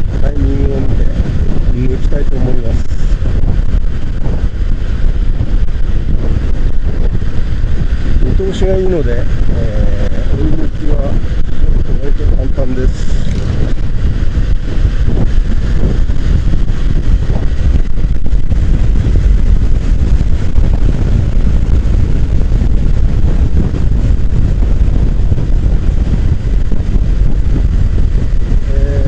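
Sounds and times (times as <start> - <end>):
wind rush on microphone: 0.0 - 29.0
motorcycle engine: 2.4 - 29.0.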